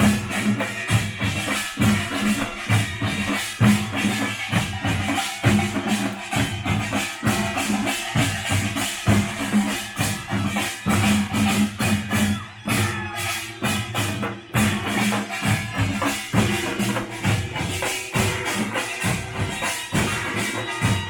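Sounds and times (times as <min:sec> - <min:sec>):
drums beating driving rhythm: 0:00.0 - 0:21.0.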